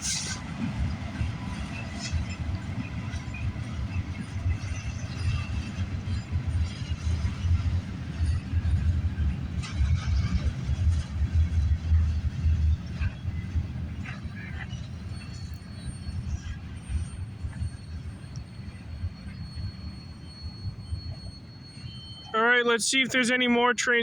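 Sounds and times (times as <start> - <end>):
freight train cars rolling: 0.0 - 24.0.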